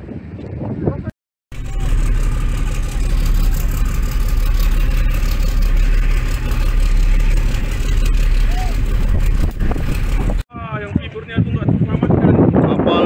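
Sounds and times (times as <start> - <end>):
boat engine rumbling: 0.7 - 12.3.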